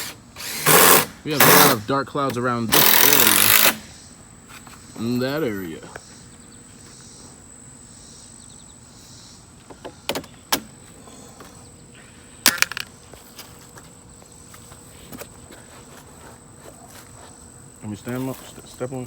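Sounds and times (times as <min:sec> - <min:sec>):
faint outdoor hiss: 0:00.0 - 0:19.0
high insect drone: 0:00.0 - 0:19.0.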